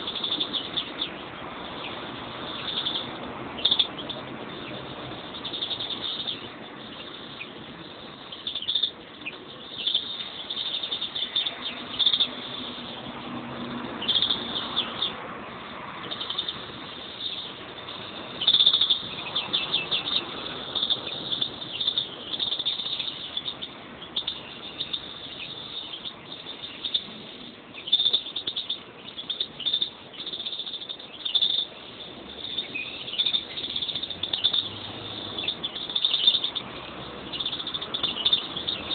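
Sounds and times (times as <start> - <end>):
finches chirping and trilling: 0.0 - 38.9.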